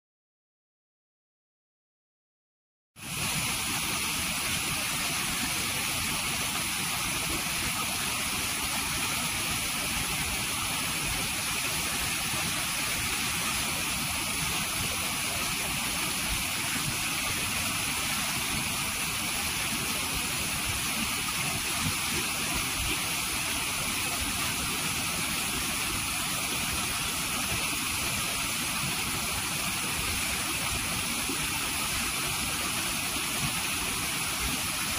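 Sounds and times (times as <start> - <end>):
water cascading over boulders: 3.0 - 34.9.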